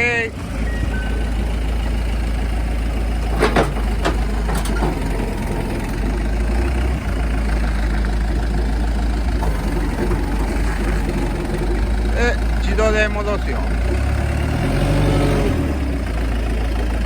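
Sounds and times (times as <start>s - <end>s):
forklift diesel engine idling: 0.0s - 17.0s.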